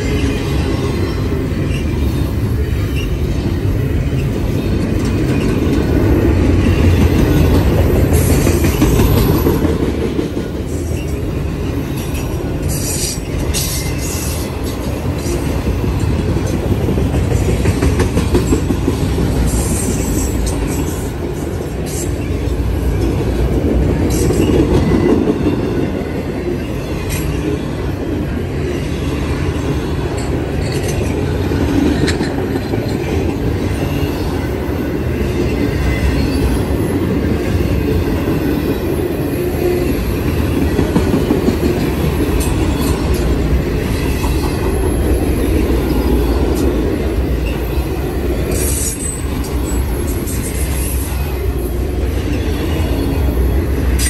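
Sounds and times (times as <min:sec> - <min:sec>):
rail joints clickety-clack: 0:00.0 - 0:54.0
train wheels rumbling on rails: 0:00.0 - 0:54.0.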